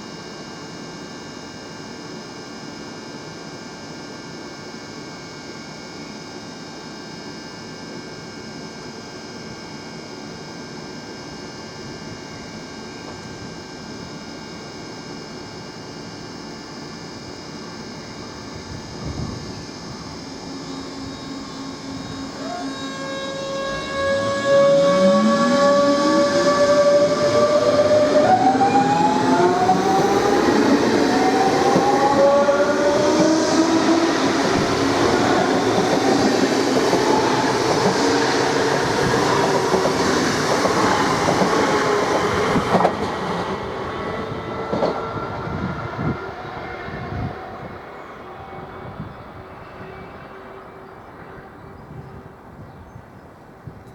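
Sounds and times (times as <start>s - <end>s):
electric train motor whine: 0.0s - 53.9s
train wheel and running noise: 0.0s - 53.9s.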